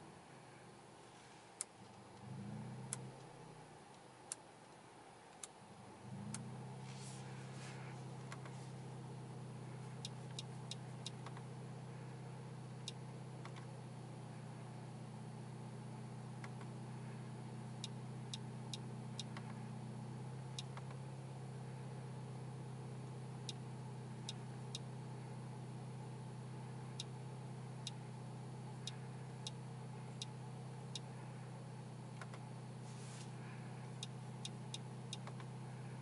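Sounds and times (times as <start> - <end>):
car engine hum in cabin: 0.0 - 36.0.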